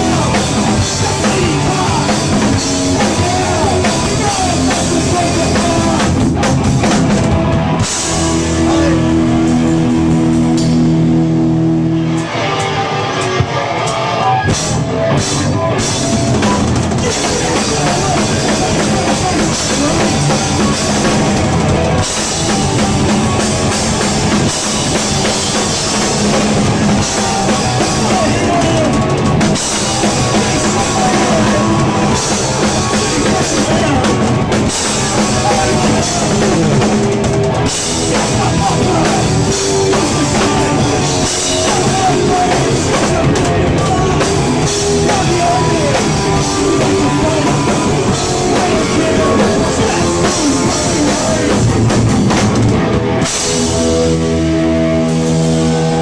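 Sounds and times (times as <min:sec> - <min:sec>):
bass guitar: 0:00.0 - 0:56.0
distorted electric guitar: 0:00.0 - 0:56.0
drum kit: 0:00.0 - 0:56.0
punk rock band playing live: 0:00.0 - 0:56.0.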